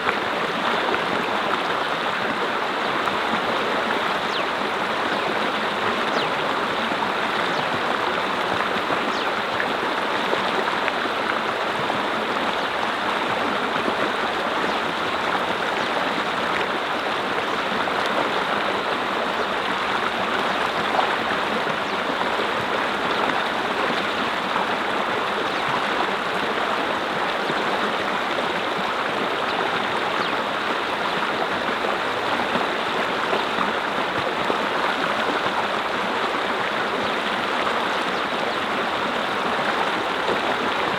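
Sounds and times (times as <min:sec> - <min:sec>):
brook flowing over rocks: 0:00.0 - 0:40.9.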